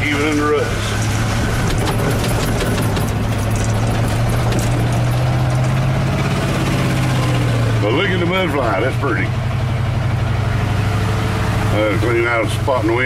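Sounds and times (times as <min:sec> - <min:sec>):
mud striking truck: 0:00.0 - 0:13.0
truck engine running: 0:00.0 - 0:13.0.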